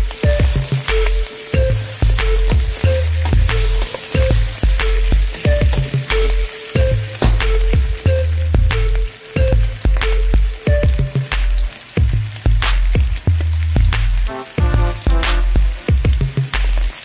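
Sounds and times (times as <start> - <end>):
food sizzling in a pan: 0.0 - 8.1, 11.2 - 17.0
background music with deep bass: 0.0 - 17.0.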